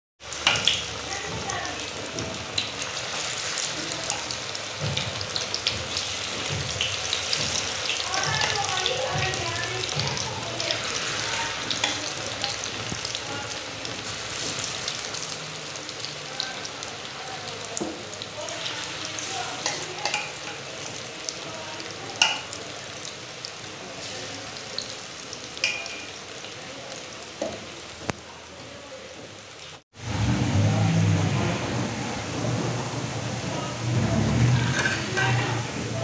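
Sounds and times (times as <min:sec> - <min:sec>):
fritters sizzling in hot oil: 0:00.2 - 0:36.0.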